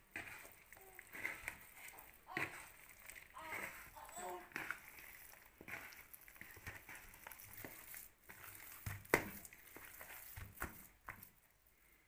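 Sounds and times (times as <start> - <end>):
hand squishing wet batter: 0.0 - 12.0.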